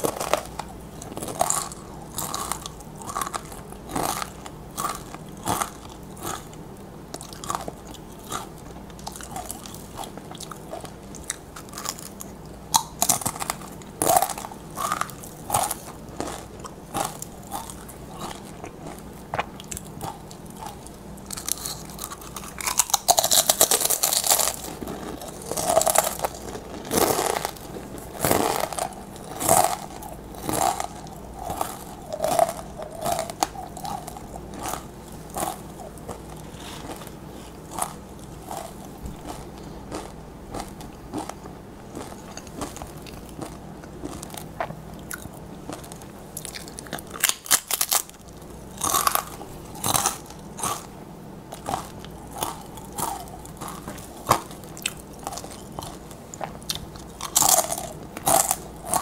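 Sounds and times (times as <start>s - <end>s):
crunchy chips being chewed: 0.0s - 59.0s.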